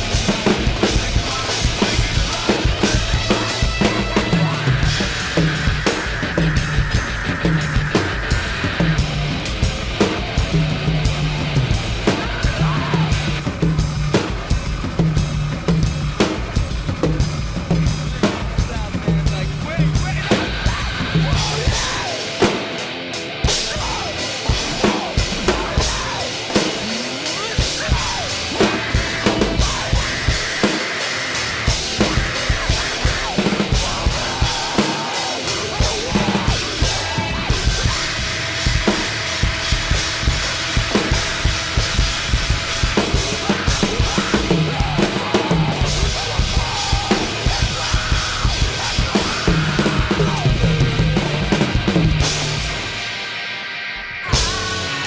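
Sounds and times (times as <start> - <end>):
drum kit played hard: 0.0 - 55.0
recorded rock song: 0.0 - 55.0.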